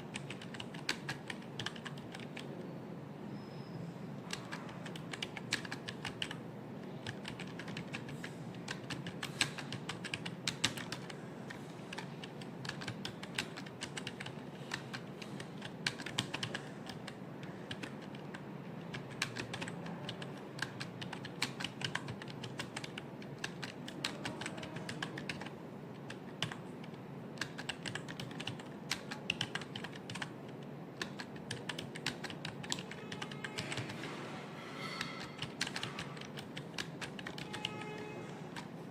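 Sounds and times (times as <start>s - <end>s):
typing on computer keyboard: 0.0s - 2.6s, 4.2s - 38.9s
low background hum: 0.0s - 38.9s.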